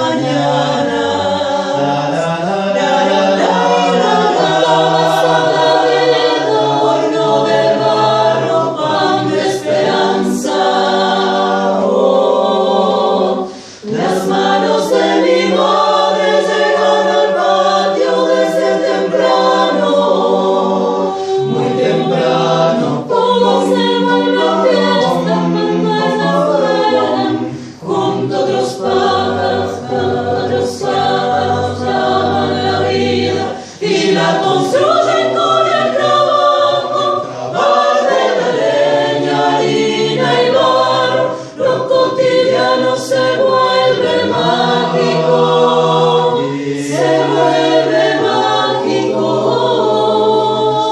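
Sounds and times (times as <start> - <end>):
choir singing a cappella: 0.0 - 50.9.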